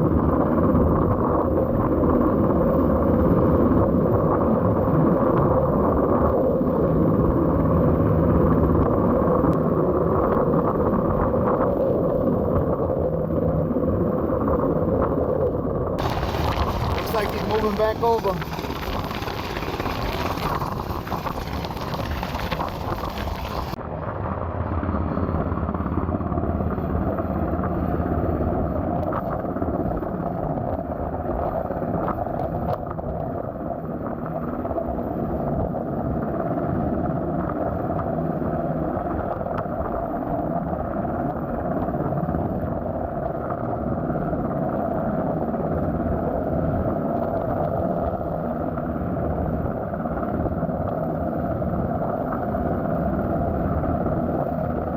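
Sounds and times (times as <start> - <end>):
helicopter hovering drone: 0.0 - 54.9.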